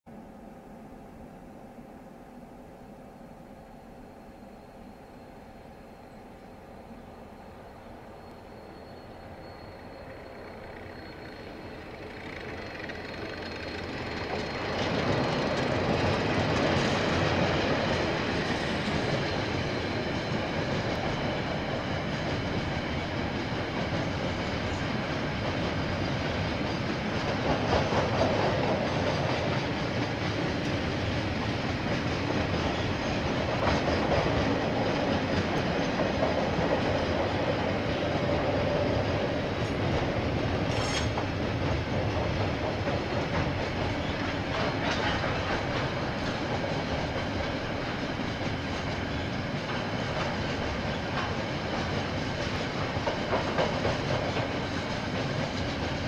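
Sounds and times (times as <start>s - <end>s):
freight train passing: 0.1s - 56.0s
wagon wheels on rails: 8.2s - 56.0s.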